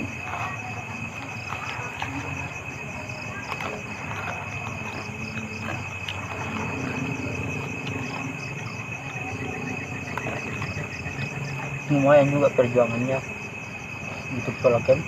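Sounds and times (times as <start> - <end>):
high-pitched insect trill: 0.0 - 15.0
pulsing insect chorus: 0.0 - 15.0.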